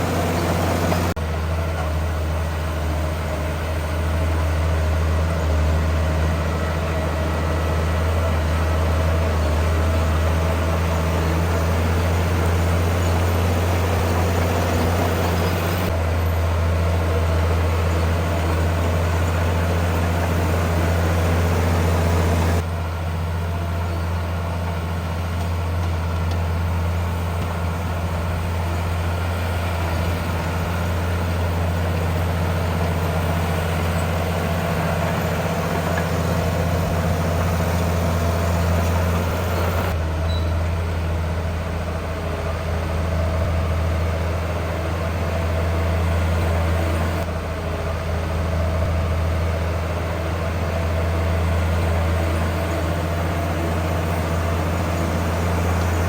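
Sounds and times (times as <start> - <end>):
heavy diesel engines humming: 0.0 - 56.0.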